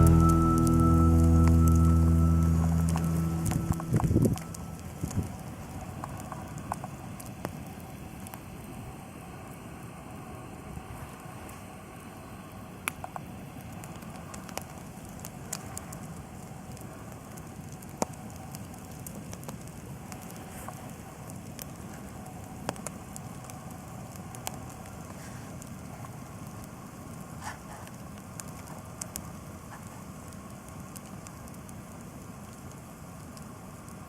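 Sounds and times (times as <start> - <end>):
campfire crackling and popping: 0.0 - 11.3, 12.5 - 34.0.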